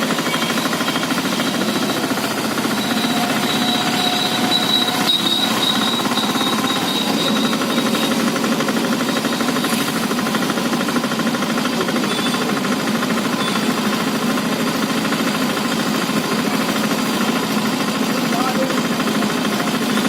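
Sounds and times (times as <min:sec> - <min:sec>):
engine running with knocking: 0:00.0 - 0:20.0.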